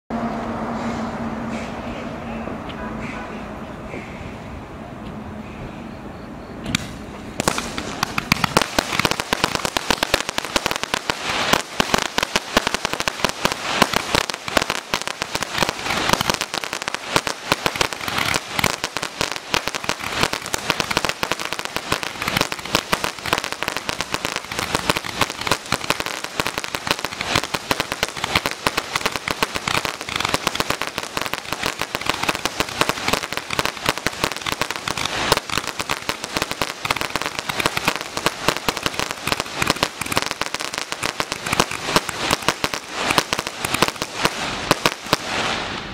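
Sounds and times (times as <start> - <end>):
roman candle firework pops: 6.6 - 45.9.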